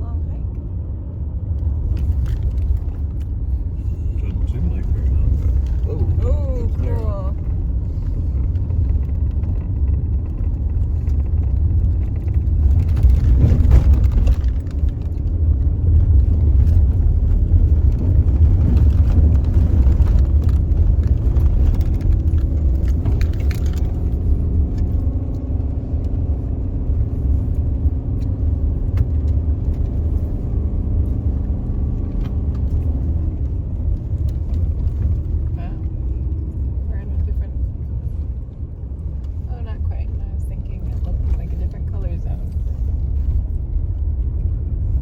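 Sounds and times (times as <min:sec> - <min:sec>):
car engine rumble: 0:00.0 - 0:45.0.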